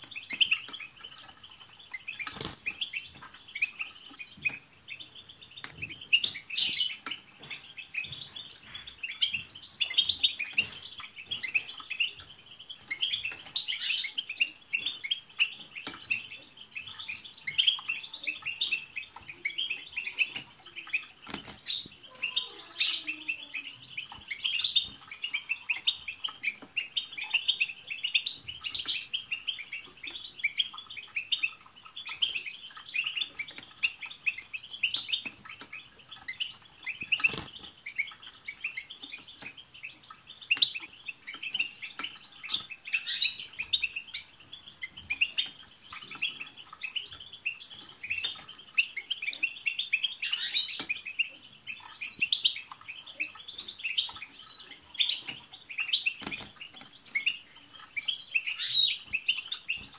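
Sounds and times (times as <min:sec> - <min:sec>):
birds twittering: 0:00.0 - 0:59.9.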